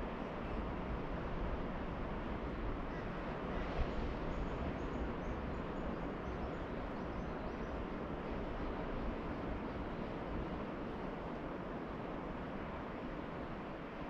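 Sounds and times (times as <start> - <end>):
distant ocean surf: 0.0 - 14.0.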